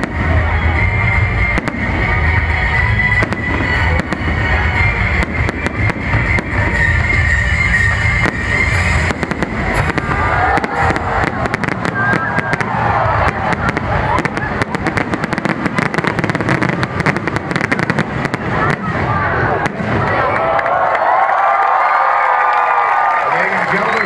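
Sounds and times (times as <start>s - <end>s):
firework bangs: 0.0s - 20.6s.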